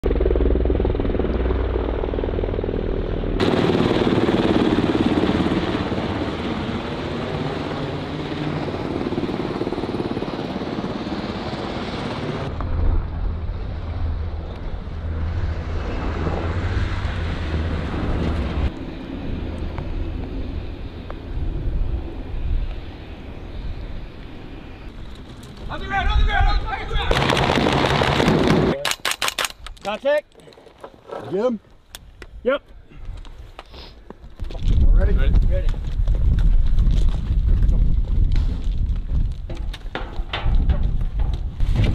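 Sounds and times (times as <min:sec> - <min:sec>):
helicopter rotors and engines: 0:00.0 - 0:41.9.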